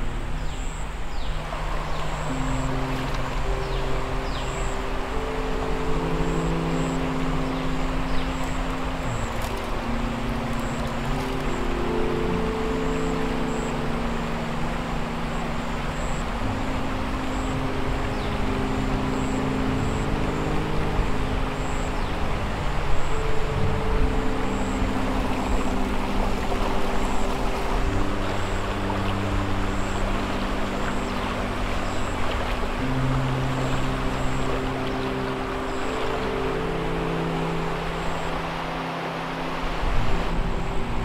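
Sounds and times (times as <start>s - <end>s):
creek water rushing over rocks: 0.0s - 41.0s
film score of held notes: 0.0s - 41.0s.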